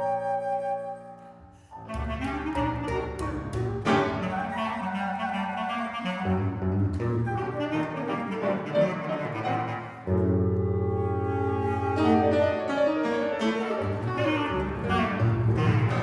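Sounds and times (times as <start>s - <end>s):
contemporary chamber music: 0.0s - 16.0s.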